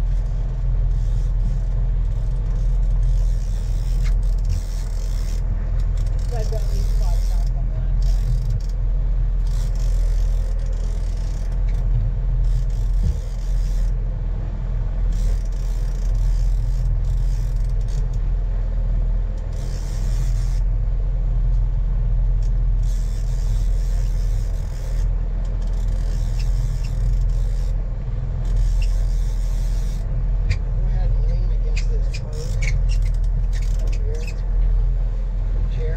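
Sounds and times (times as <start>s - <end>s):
boat engine drone: 0.0s - 35.9s.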